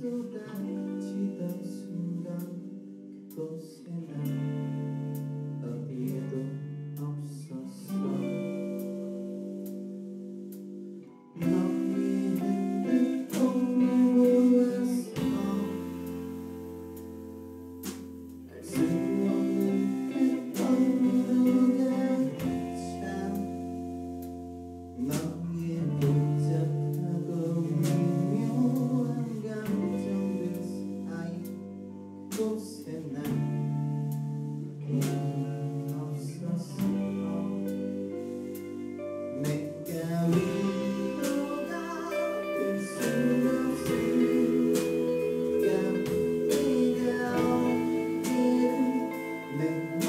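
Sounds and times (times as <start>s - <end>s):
man singing into microphone: 0.0s - 4.6s, 5.6s - 8.7s, 11.4s - 16.4s, 18.5s - 23.8s, 25.0s - 31.7s, 32.3s - 33.8s, 34.8s - 38.4s, 39.2s - 50.0s
electric guitar: 0.0s - 50.0s
low bass notes: 4.3s - 50.0s.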